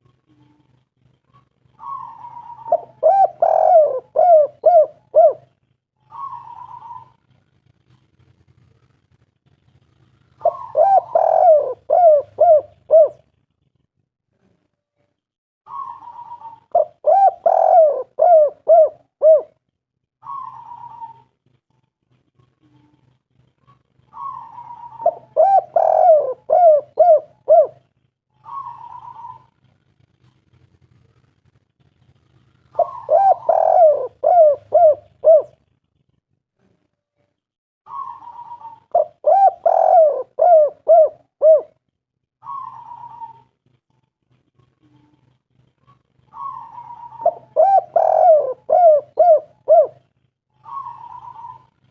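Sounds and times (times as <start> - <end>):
dove cooing: 0.0 - 8.9, 9.8 - 13.4, 15.7 - 31.3, 32.2 - 36.9, 37.9 - 51.9
dove purring: 0.0 - 51.9.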